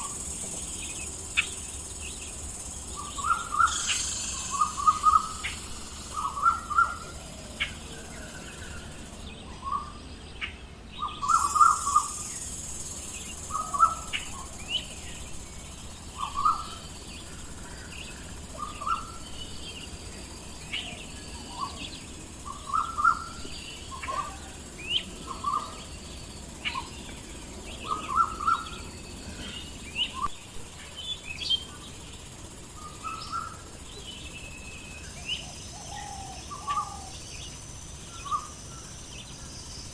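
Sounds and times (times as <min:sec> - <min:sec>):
birds chirping: 0:00.0 - 0:39.9
steady outdoor hiss: 0:00.0 - 0:39.9.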